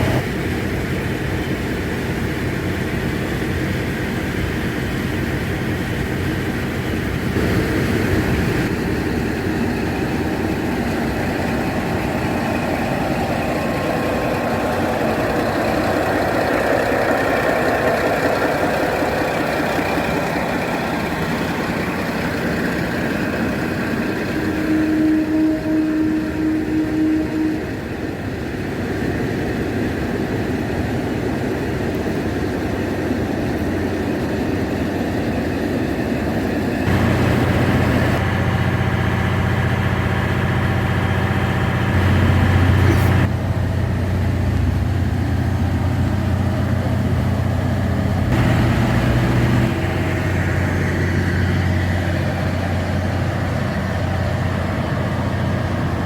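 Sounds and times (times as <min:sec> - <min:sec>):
diesel railcar engine running: 0:00.0 - 0:56.0.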